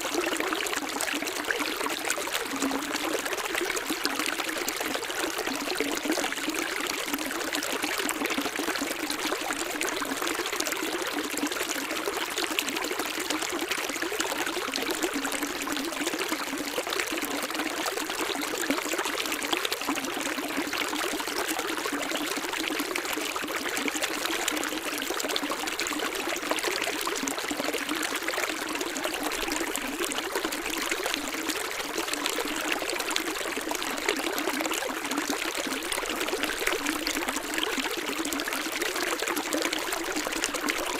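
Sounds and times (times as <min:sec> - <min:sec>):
running water trickling and splashing: 0:00.0 - 0:40.9.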